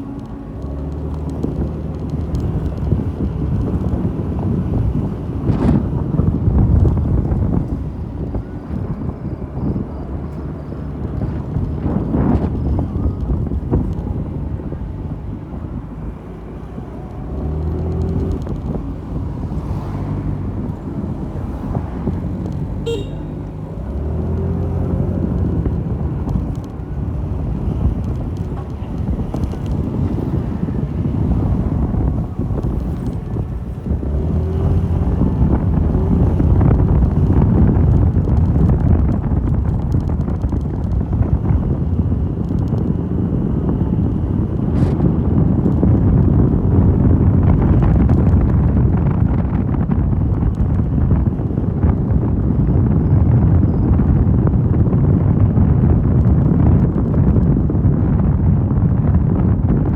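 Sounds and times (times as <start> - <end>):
motorcycle engine shifting gears: 0.0 - 59.9
wind rush on microphone: 0.0 - 59.9.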